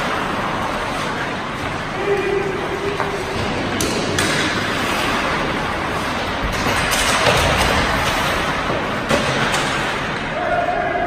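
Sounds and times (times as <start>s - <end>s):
skate blades scraping on ice: 0.0s - 10.0s
hockey sticks and pucks clacking: 0.0s - 11.0s.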